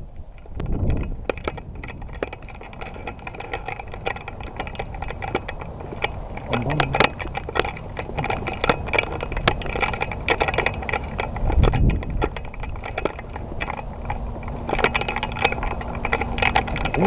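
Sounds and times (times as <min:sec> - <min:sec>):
gear rattling and clicking: 0:00.0 - 0:17.0.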